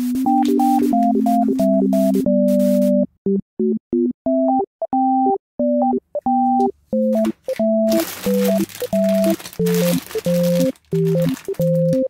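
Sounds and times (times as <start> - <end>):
simple synthesizer tune: 0.0 - 12.0.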